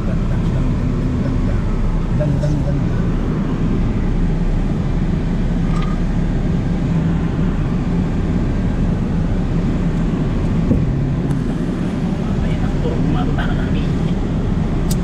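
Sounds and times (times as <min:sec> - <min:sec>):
vehicle engine and tyres droning: 0:00.0 - 0:15.0.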